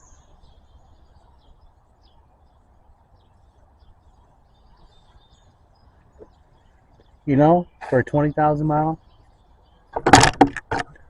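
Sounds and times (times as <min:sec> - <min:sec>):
faint birds chirping: 0:00.0 - 0:11.0
low steady rumble: 0:00.0 - 0:11.0.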